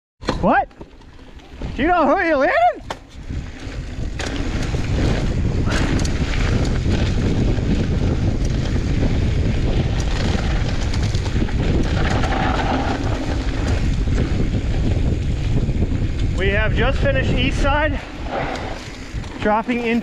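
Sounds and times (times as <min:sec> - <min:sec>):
bike clicking and rattling: 0:00.2 - 0:20.0
bike tyres rolling on dirt: 0:00.8 - 0:20.0
wind buffeting microphone: 0:01.1 - 0:20.0.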